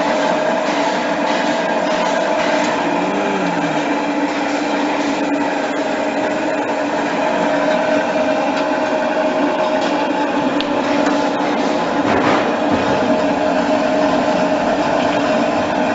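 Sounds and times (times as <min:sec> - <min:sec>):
machine motor humming and whining: 0:00.0 - 0:15.9.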